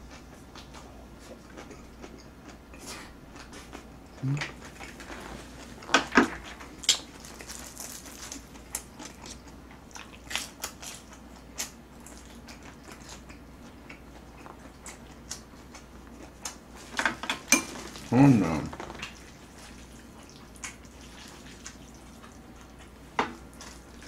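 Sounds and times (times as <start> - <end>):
chewing food with crunches: 0.0 - 24.0.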